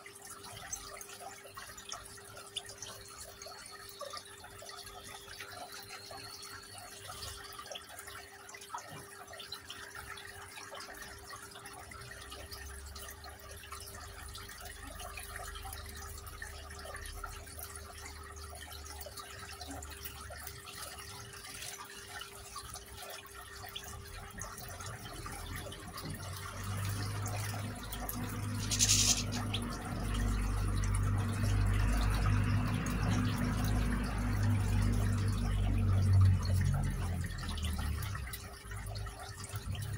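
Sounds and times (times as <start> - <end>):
fountain water trickling: 0.0 - 39.9.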